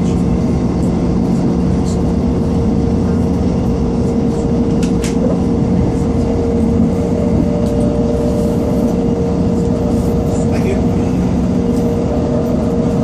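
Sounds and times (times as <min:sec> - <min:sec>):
train engine drone: 0:00.0 - 0:13.0
wheels rumbling on rails: 0:00.0 - 0:13.0.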